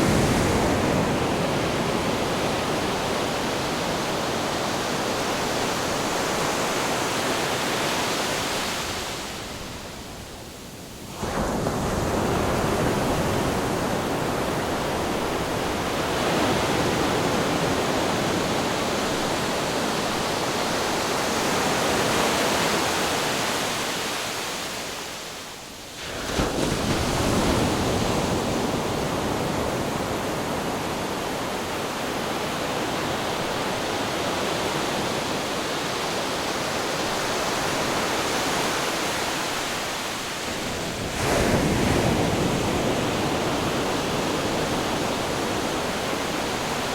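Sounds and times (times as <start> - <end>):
ocean surf: 0.0 - 46.9
wind: 0.0 - 46.9.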